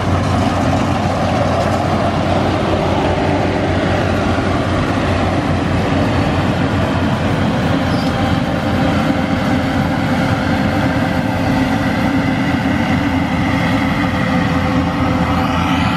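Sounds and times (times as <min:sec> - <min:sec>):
combine harvester drone: 0:00.0 - 0:15.9.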